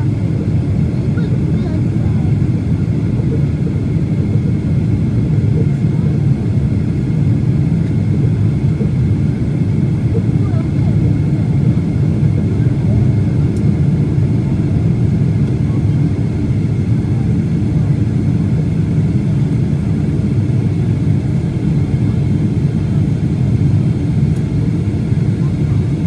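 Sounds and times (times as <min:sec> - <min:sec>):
faint steady whine: 0:00.0 - 0:26.0
jet engine and airflow roar: 0:00.0 - 0:26.0.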